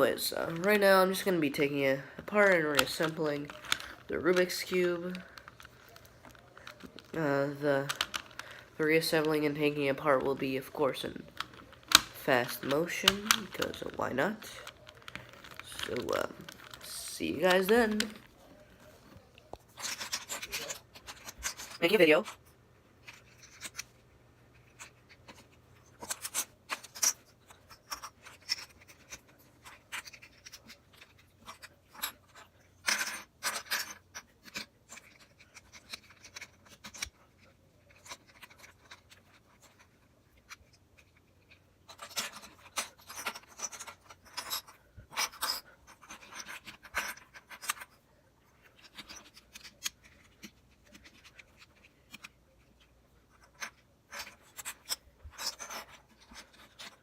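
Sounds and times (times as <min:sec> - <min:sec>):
plastic puzzle cube clicking: 0:02.2 - 0:09.2, 0:10.6 - 0:18.4, 0:23.0 - 0:48.0, 0:48.6 - 0:57.0.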